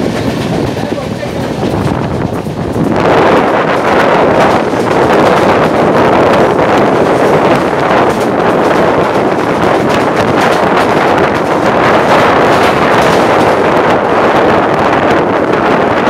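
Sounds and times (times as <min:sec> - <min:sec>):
train running on rails: 0:00.0 - 0:16.0
wind buffeting microphone: 0:00.0 - 0:16.0.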